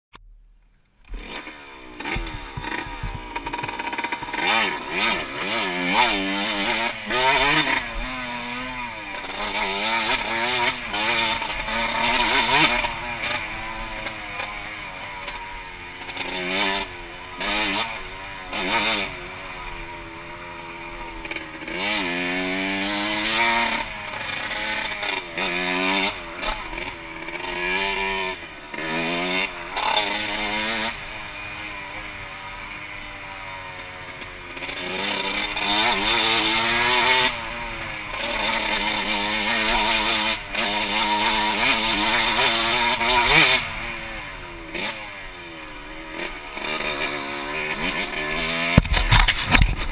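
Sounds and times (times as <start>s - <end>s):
motorcycle engine revving: 0.2s - 49.9s.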